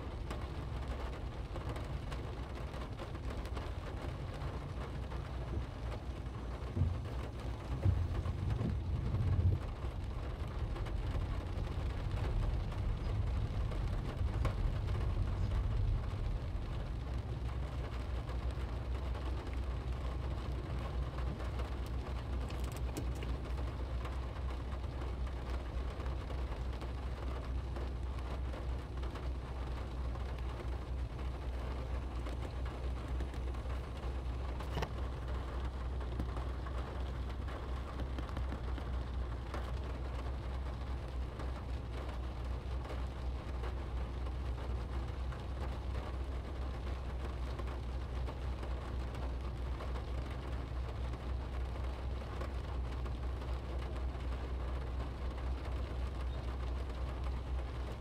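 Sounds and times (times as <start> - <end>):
rain pattering on car roof: 0.0 - 58.0
steady low rumble: 0.0 - 58.0.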